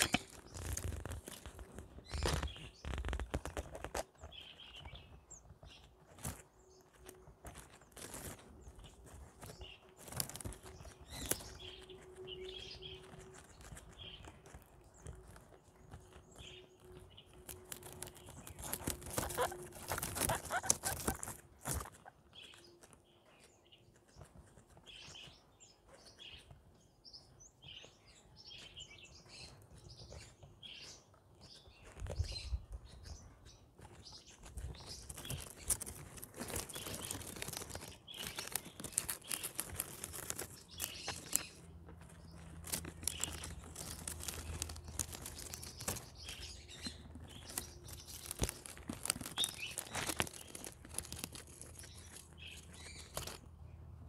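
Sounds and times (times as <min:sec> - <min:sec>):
guinea pigs chewing plants: 0:00.0 - 0:54.0.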